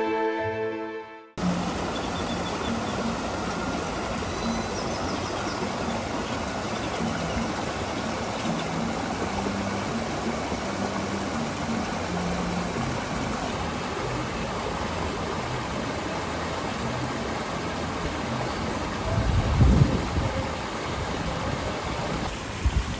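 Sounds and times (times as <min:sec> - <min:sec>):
stream water rushing: 0:01.4 - 0:22.9.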